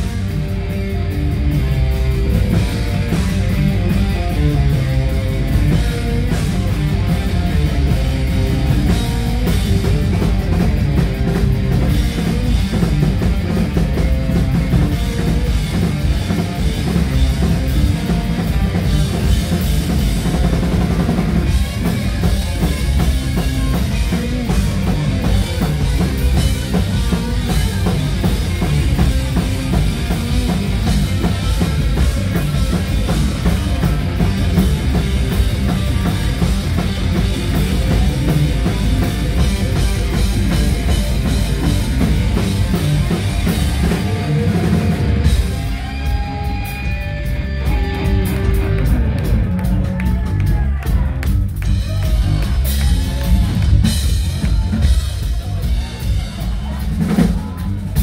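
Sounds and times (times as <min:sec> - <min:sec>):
heavy rock band playing live: 0:00.0 - 0:58.0.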